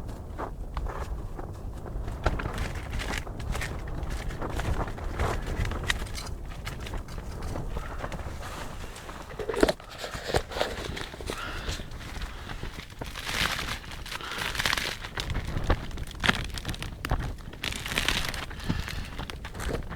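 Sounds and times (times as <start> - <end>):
rustling and crunching handling: 0.0 - 19.9.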